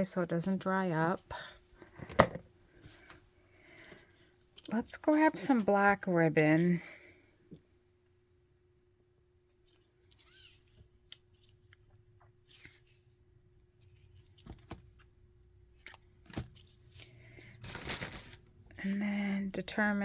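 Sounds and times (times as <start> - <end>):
rustling of craft supplies: 0.0 - 6.9, 9.6 - 19.6.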